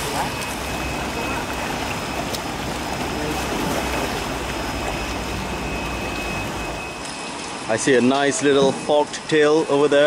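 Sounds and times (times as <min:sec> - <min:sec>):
water churning and splashing: 0:00.0 - 0:10.0.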